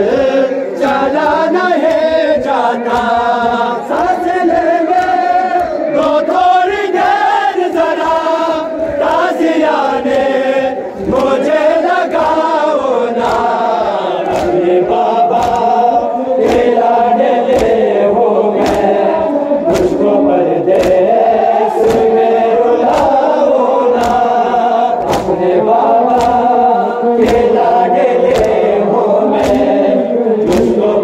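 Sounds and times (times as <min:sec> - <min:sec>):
group chanting a lament: 0:00.0 - 0:31.0
sharp beats: 0:00.0 - 0:31.0.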